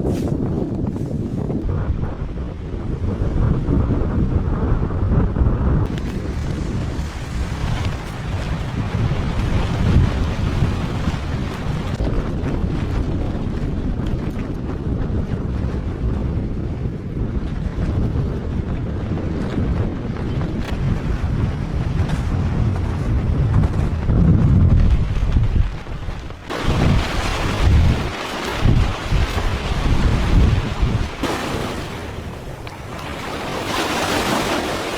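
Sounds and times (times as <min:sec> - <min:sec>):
strong wind buffeting microphone: 0:00.0 - 0:34.9.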